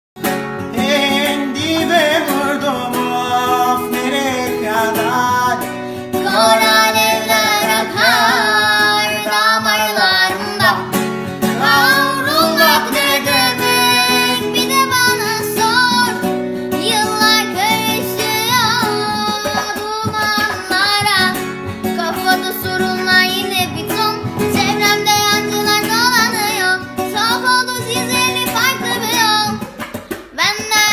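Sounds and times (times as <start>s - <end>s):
plucked acoustic guitar: 0.2s - 30.9s
high singing voice: 0.7s - 29.7s, 30.3s - 30.9s.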